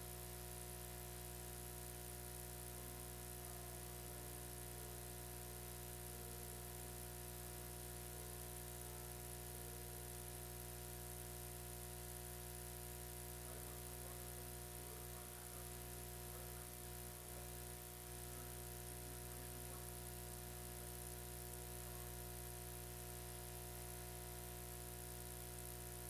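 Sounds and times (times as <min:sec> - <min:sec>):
electrical hum and buzz: 0:00.0 - 0:26.0.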